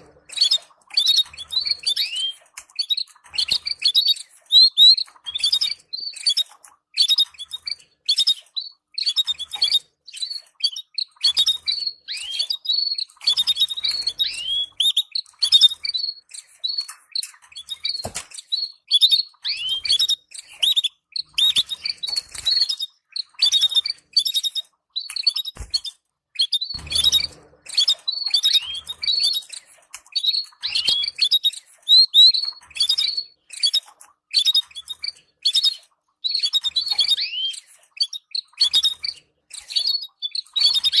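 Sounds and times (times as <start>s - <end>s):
canary chirping: 0.0s - 41.0s.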